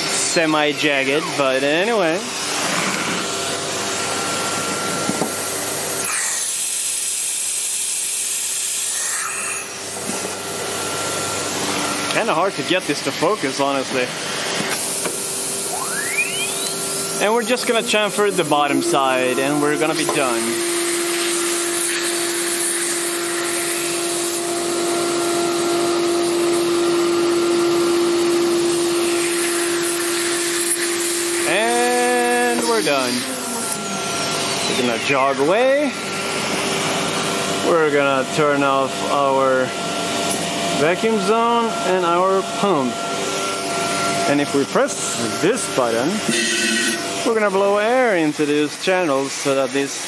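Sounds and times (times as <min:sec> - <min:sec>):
high steady whine: 0:00.0 - 0:06.0, 0:10.0 - 0:47.7
router cutting metal: 0:00.0 - 0:50.0
vacuum pump and extractor hiss: 0:00.0 - 0:50.0.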